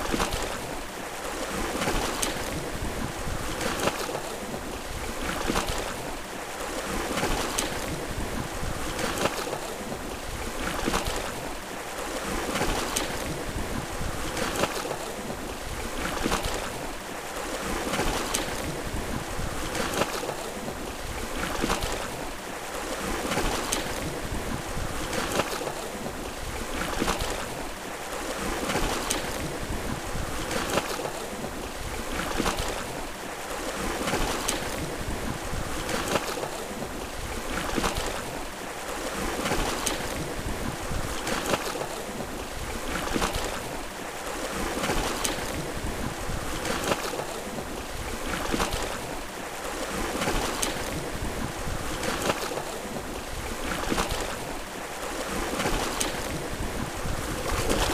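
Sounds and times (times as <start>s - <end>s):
waves splashing against rocks: 0.0s - 57.9s.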